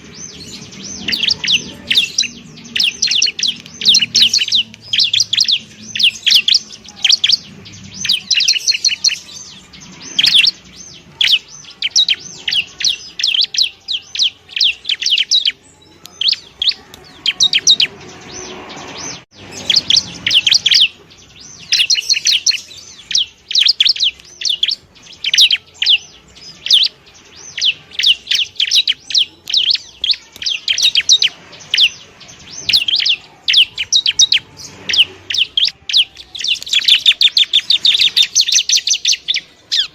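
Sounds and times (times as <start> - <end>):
bird singing high sharp chirps: 0.0 - 39.9.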